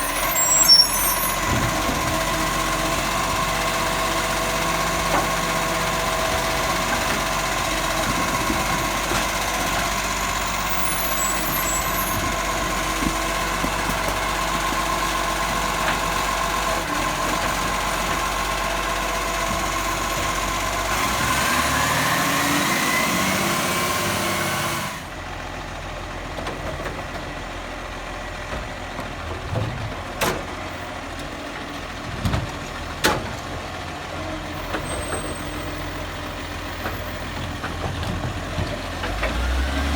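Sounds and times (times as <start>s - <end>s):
garbage truck engine drone: 0.0s - 39.9s.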